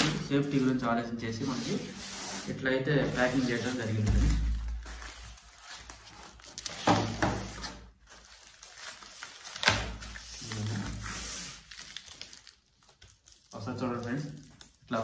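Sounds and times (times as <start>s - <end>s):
foam and plastic wrap rustling: 0.0s - 15.0s.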